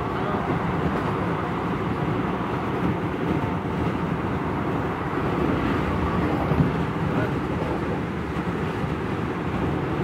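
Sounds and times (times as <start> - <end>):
train running on track: 0.0 - 10.0.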